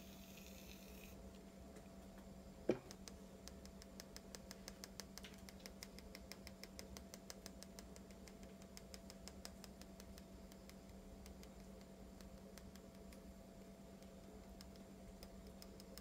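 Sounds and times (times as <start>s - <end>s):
faint rapid ticking of plastic tube: 2.7s - 16.0s.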